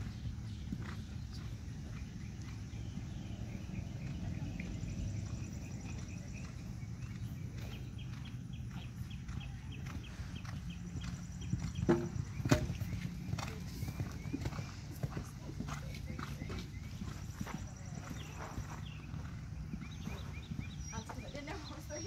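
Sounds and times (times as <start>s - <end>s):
faint high insect chirps: 0.0s - 22.0s.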